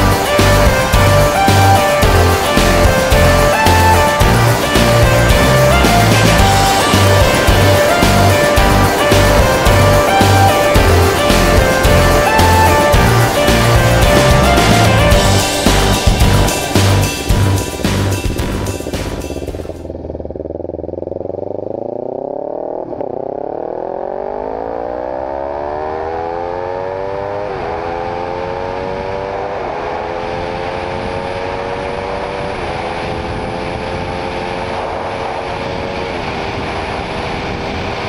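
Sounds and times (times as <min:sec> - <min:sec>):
motorcycle engine accelerating: 0:00.0 - 0:38.0
wind and road noise: 0:00.0 - 0:38.0.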